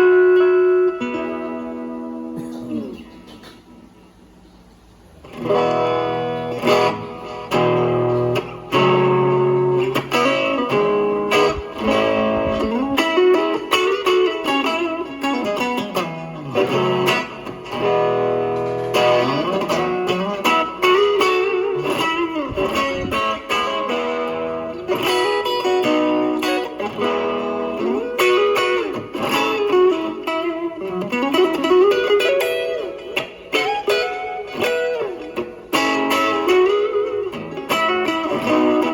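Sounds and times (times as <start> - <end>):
electric guitar: 0.0 - 38.9.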